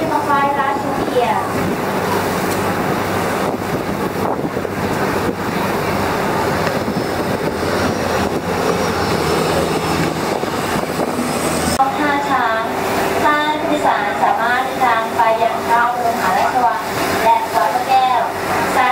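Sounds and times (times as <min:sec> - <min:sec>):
boat engine running: 0:00.0 - 0:18.9
rush of boat wake: 0:00.0 - 0:18.9
wind buffeting microphone: 0:00.0 - 0:18.9.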